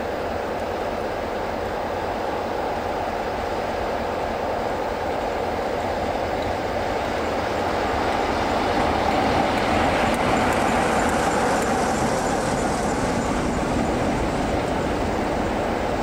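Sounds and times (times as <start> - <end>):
diesel locomotive rumbling past: 0.0 - 16.0.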